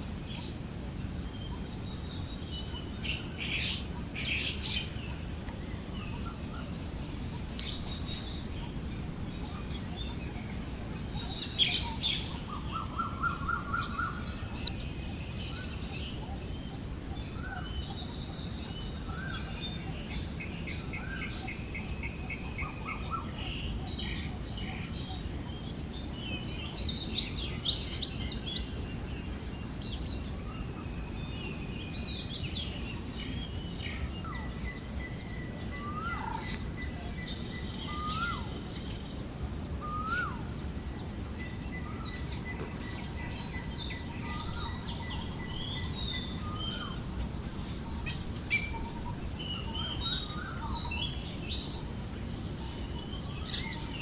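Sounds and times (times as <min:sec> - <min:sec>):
high insect trill: 0:01.5 - 0:54.0.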